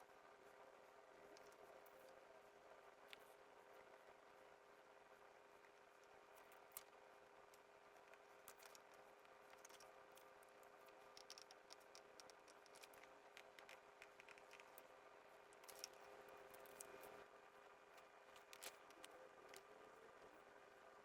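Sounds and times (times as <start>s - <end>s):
faint room hum: 0.0s - 21.0s.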